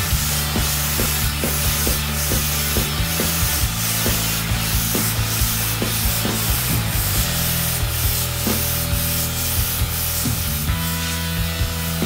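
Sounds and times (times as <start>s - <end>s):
airbrush hissing: 0.0s - 12.0s
compressor humming: 0.0s - 12.0s.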